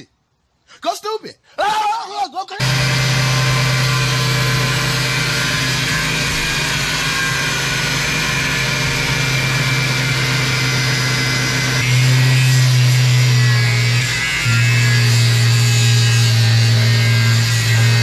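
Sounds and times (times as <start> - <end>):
angle grinder cutting fiberglass: 2.6 - 18.0.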